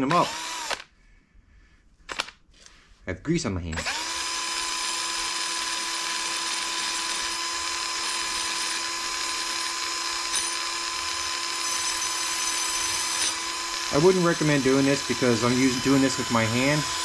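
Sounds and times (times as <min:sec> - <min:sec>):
power drill motor whine: 0:00.0 - 0:00.9, 0:03.8 - 0:17.0.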